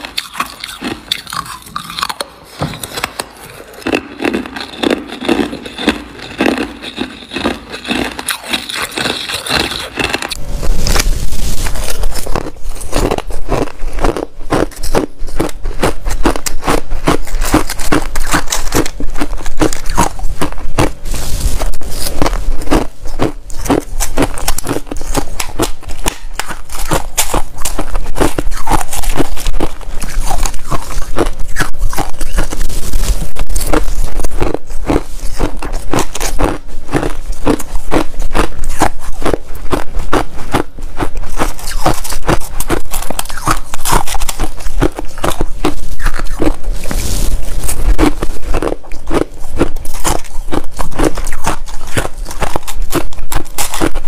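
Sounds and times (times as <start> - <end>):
ice being chewed: 0.0 - 54.0.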